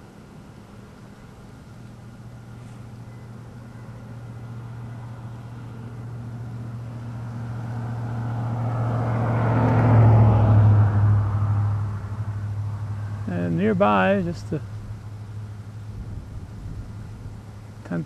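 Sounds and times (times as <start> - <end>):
vehicle engine approaching: 1.8 - 18.0.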